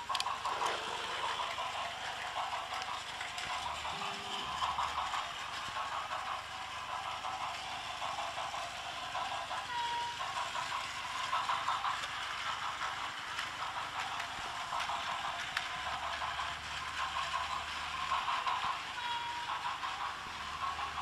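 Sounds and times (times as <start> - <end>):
toy train motors whirring: 0.0 - 21.0.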